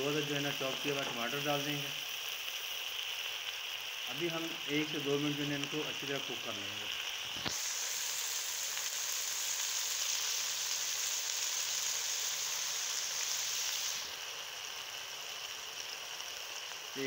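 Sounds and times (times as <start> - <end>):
vegetables sizzling in hot fat: 0.0 - 17.0.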